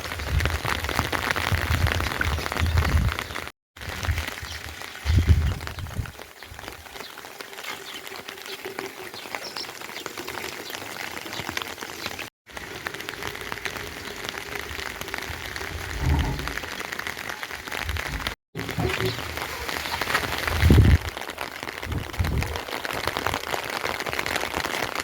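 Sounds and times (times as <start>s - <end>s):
rain drops pattering: 0.0s - 25.0s.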